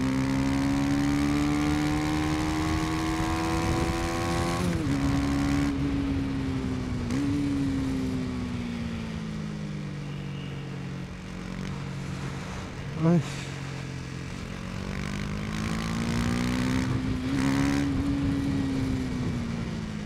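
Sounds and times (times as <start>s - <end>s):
motorcycle engine revving: 0.0s - 9.1s, 11.2s - 20.0s.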